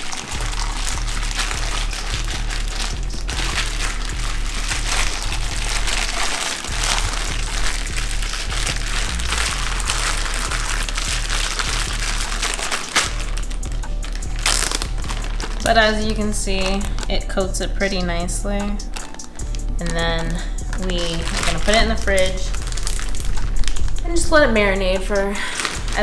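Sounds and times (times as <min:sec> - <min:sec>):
background music with steady beat: 0:00.0 - 0:26.0
plastic bag crinkling: 0:00.0 - 0:26.0.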